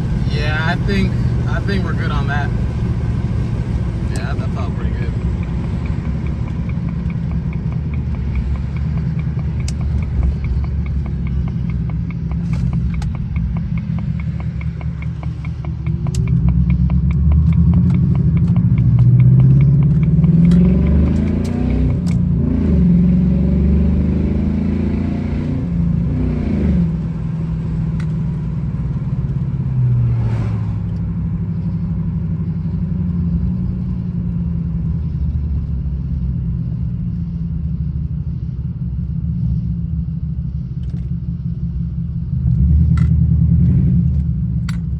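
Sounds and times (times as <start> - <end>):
car engine accelerating and cruising: 0.0 - 44.9.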